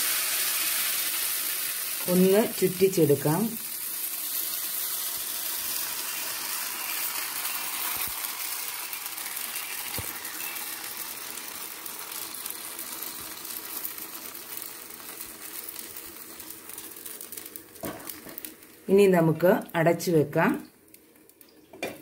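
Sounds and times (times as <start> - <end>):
batter sizzling in a hot pan: 0.0 - 22.0.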